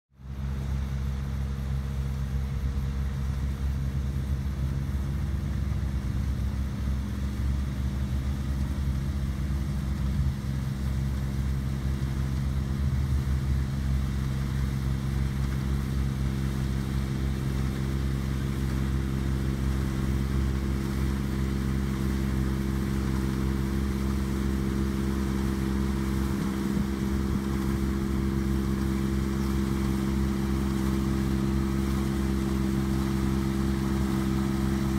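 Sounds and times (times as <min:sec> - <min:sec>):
combine harvester engine drone: 0:00.2 - 0:34.9.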